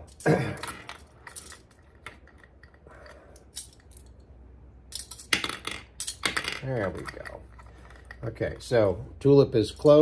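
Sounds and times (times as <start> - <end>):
metal ball clinking through mechanism: 0.0 - 4.2, 4.9 - 8.7.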